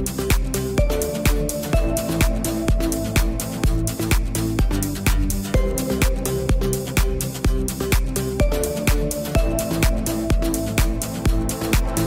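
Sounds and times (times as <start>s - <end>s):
kick-drum beat: 0.0s - 12.0s.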